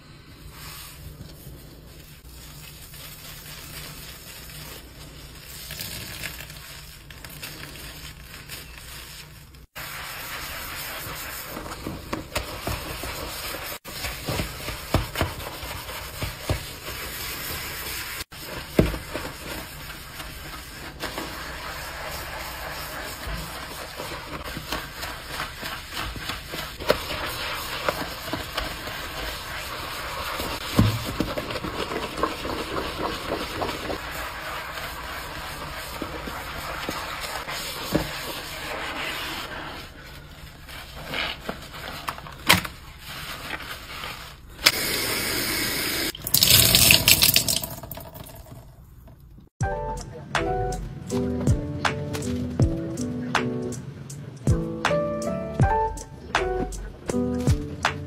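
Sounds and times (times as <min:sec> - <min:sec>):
sponge scrubbing through soap foam: 0:00.3 - 0:47.6.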